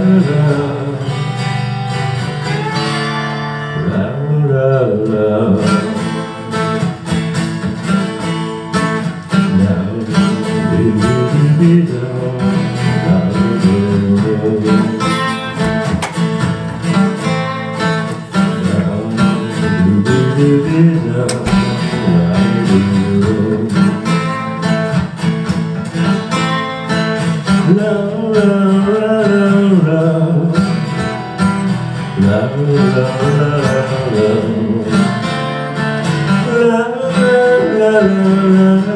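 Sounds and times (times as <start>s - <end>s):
acoustic guitar: 0.0s - 38.9s.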